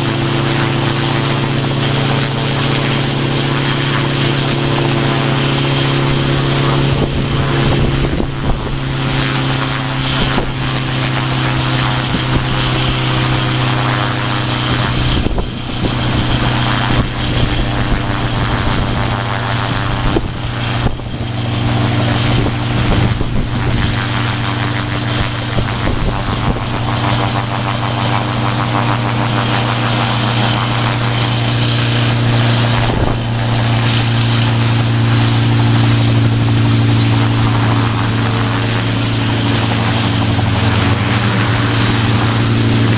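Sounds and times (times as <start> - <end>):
helicopter engine and rotor drone: 0.0 - 42.9.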